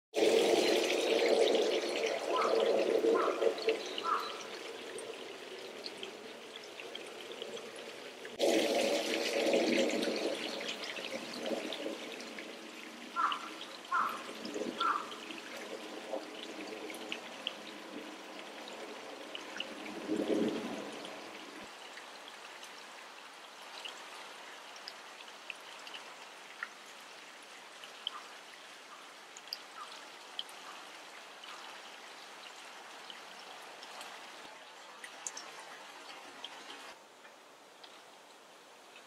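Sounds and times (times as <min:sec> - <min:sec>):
water trickling and pouring: 0:00.2 - 0:37.0.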